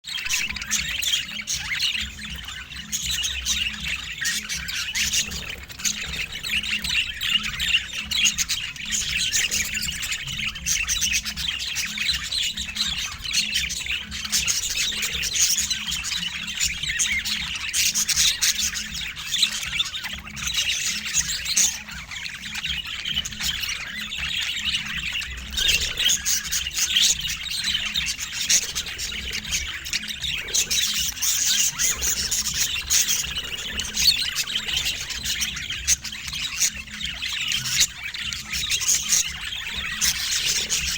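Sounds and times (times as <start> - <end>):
budgerigar chattering: 0.1 - 40.9.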